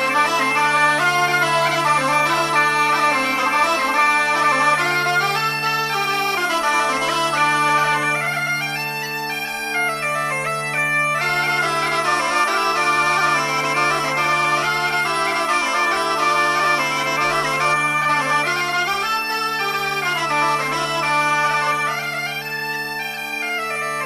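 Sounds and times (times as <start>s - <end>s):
bagpipe drones: 0.0s - 24.0s
bagpipe melody: 0.0s - 24.0s.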